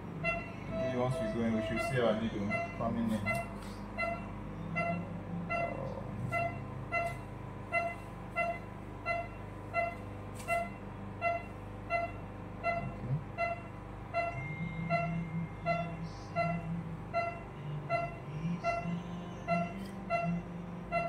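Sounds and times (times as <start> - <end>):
pulse oximeter beeping: 1.6 - 21.0.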